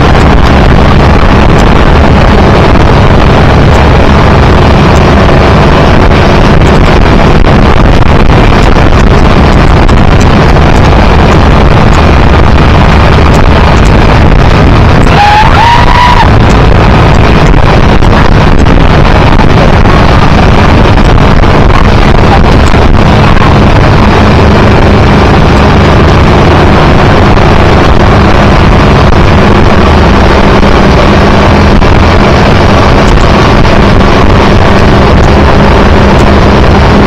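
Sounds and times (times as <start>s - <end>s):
motorboat engine drone: 0.0s - 37.0s
wind buffeting microphone: 0.0s - 37.0s.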